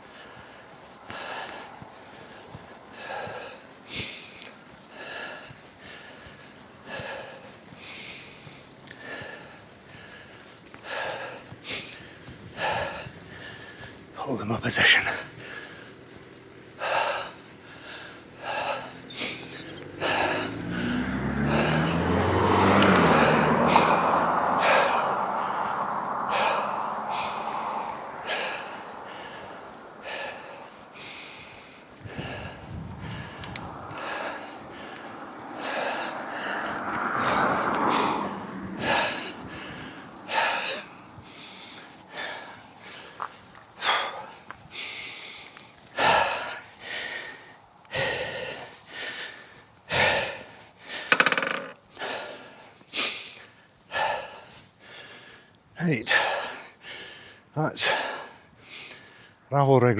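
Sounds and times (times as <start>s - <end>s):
hard rhythmic breathing: 0.0s - 59.5s
motor vehicle passing: 0.0s - 59.5s.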